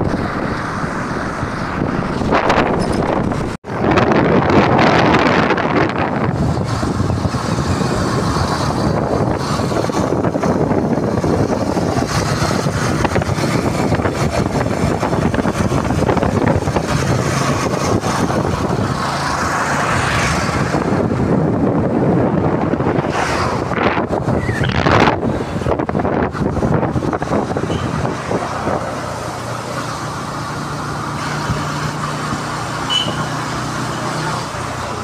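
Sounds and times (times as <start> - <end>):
motorcycle engine: 0.0 - 35.0
wind rushing over microphone: 0.0 - 35.0.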